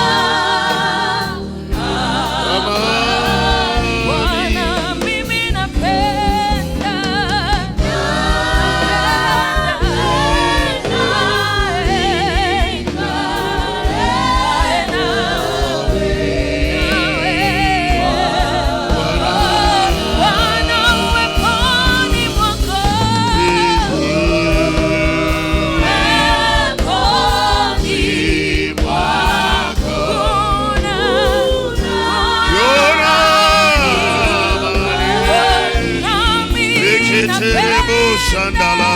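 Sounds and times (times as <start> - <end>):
musical accompaniment: 0.0 - 38.9
person singing gospel with vibrato: 0.0 - 38.9.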